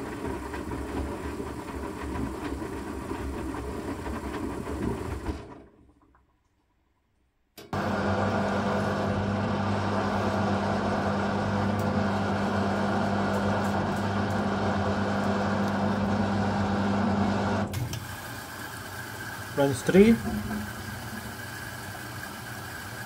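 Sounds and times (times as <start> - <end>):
washing machine running: 0.0 - 6.1, 7.6 - 23.0.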